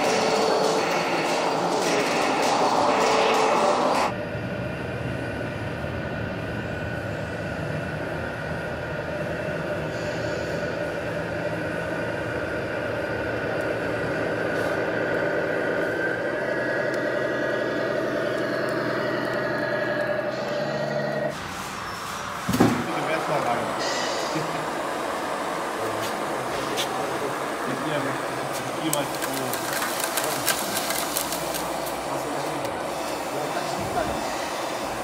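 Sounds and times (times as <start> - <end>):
model truck diesel engine drone: 0.0 - 35.0.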